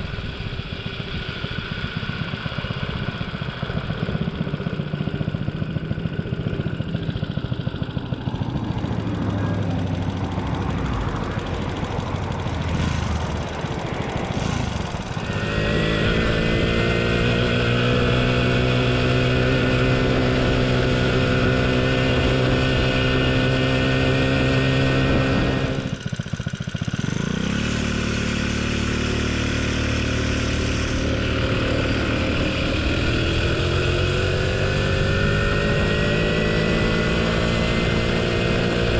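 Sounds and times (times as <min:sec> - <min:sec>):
small moped engine: 0:00.0 - 0:38.9.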